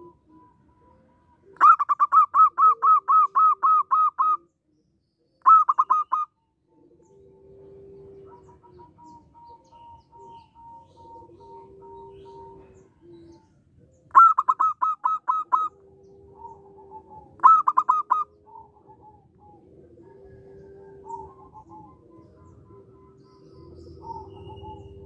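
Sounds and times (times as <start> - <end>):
dove cooing: 0.0 - 4.5, 5.4 - 25.0
faint drawn-out bird calls: 0.0 - 25.0.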